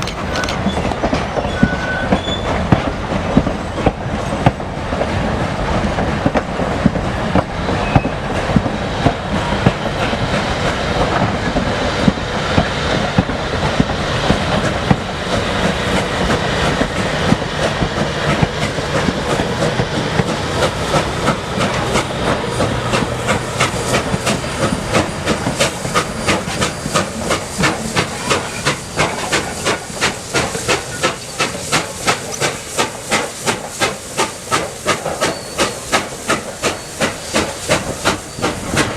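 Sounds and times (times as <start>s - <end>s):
steam locomotive exhaust chuffs: 0.0s - 38.9s.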